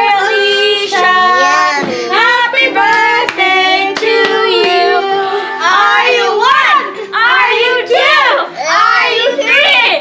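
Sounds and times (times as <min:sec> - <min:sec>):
children singing: 0:00.0 - 0:09.6.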